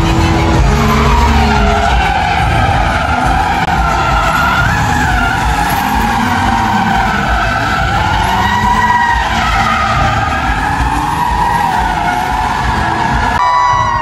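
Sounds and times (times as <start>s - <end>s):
car engines running hard: 0.0s - 14.0s
tyres skidding and squealing: 0.0s - 14.0s.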